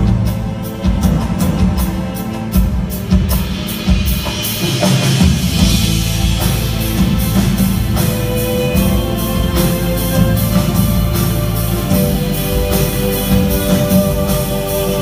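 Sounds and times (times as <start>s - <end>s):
deep bass: 0.0s - 2.7s, 5.1s - 15.0s.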